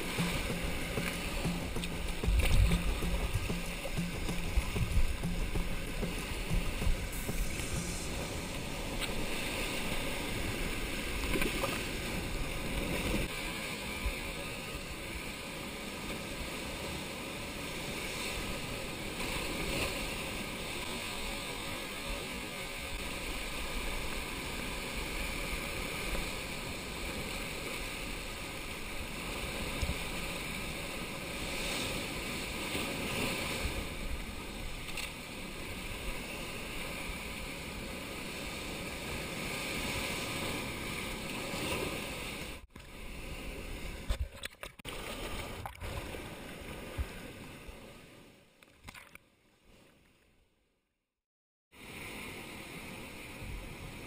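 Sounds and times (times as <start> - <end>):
surf surging through rocks: 0.0 - 44.2, 51.8 - 54.0.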